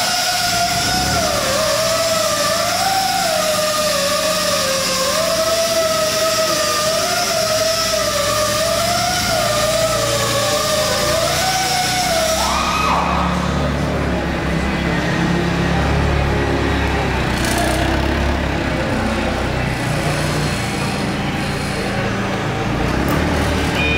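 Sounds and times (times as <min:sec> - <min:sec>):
forklift engine rumble: 0:00.0 - 0:23.9
forklift hydraulic pump whine: 0:00.0 - 0:23.9.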